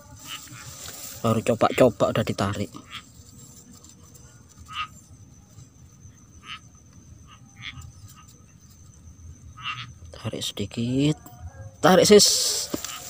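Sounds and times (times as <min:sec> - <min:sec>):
frogs croaking: 0:00.0 - 0:13.0
high-pitched insect drone: 0:00.0 - 0:13.0.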